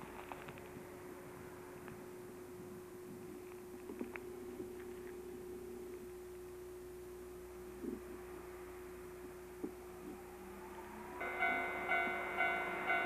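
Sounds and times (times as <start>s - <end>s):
faint low rumble: 0.0s - 13.0s
steady hum: 0.0s - 13.0s.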